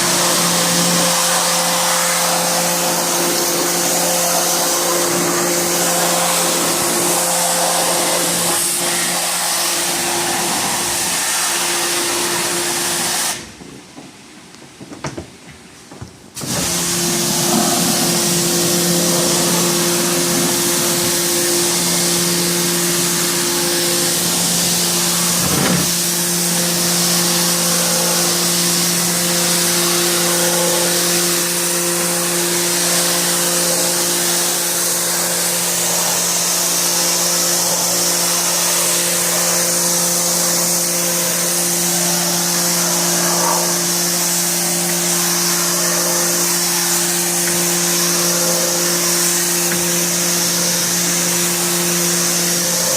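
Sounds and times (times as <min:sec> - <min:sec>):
cleaning machine humming and hissing: 0:00.0 - 0:13.5, 0:16.4 - 0:52.9.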